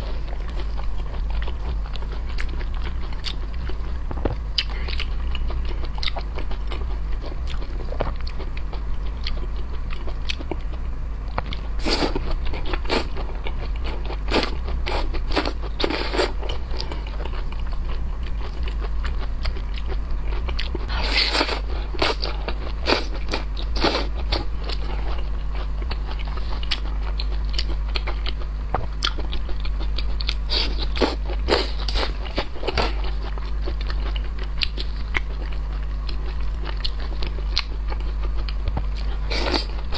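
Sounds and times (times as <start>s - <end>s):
chewing: 0.0s - 39.9s
crunchy seafood eating: 0.0s - 39.9s
steady low hum: 0.0s - 39.9s.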